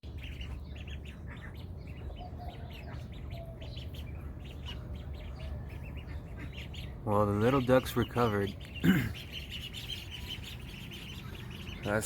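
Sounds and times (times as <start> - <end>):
ducklings peeping: 0.0 - 12.0
low steady hum: 0.0 - 12.0.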